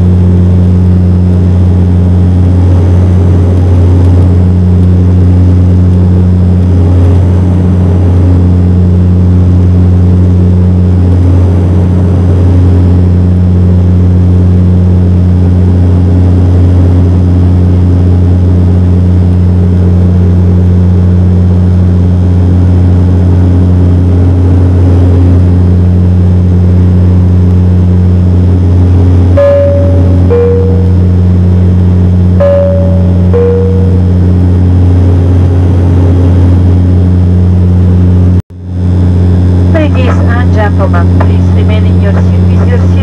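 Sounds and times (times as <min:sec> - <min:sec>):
turboprop cabin drone: 0:00.0 - 0:43.0.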